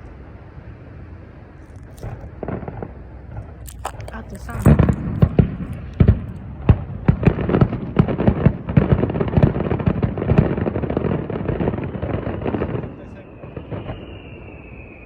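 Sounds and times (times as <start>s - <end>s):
fireworks bursting: 1.7s - 15.0s.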